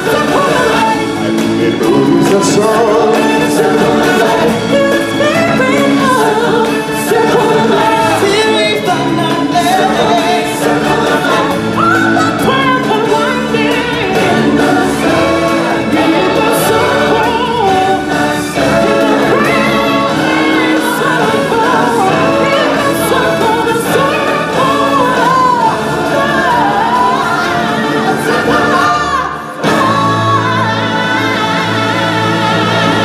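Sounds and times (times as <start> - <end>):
loud amplified backing music: 0.0 - 33.0
voices singing together: 0.0 - 33.0.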